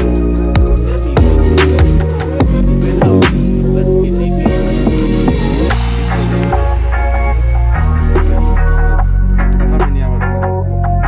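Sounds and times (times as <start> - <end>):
deep bass line: 0.0 - 11.0.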